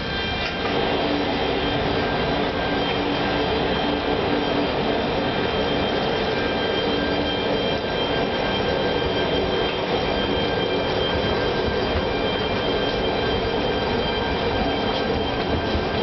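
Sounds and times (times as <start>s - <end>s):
train hum and hiss: 0.0s - 16.0s
whining tones: 0.0s - 16.0s.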